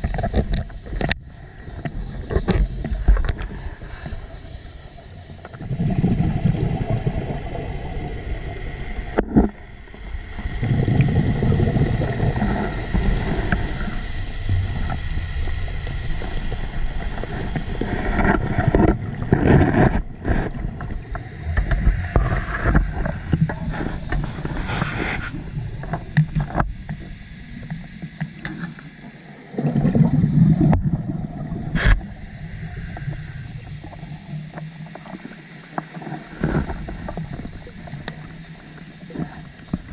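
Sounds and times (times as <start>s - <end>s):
exhaled bubbles underwater: 0.0s - 28.6s, 29.4s - 39.9s.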